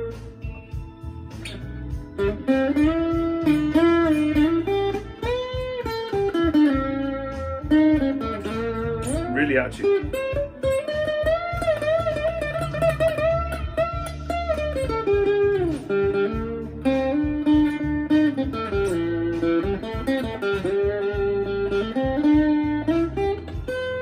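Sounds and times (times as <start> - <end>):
backing track with bass and drums: 0.0 - 24.0
overdriven electric guitar lead: 0.0 - 24.0.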